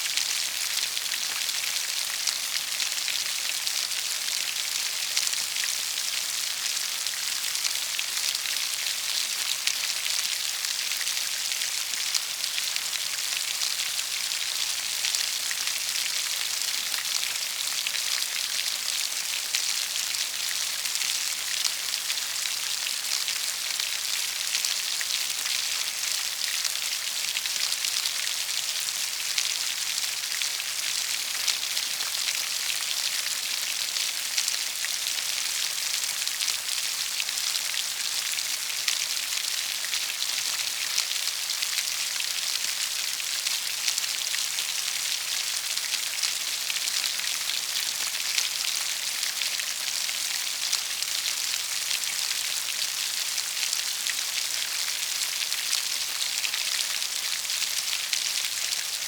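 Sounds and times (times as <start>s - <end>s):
rain falling steadily: 0.0s - 59.0s.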